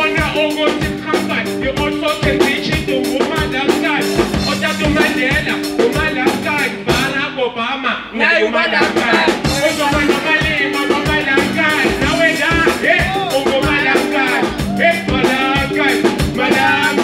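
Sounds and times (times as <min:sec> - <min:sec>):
electric guitar: 0:00.0 - 0:07.2, 0:08.4 - 0:17.0
person singing: 0:00.0 - 0:07.2, 0:08.2 - 0:17.0
drum kit beat: 0:00.0 - 0:07.4, 0:08.4 - 0:17.0.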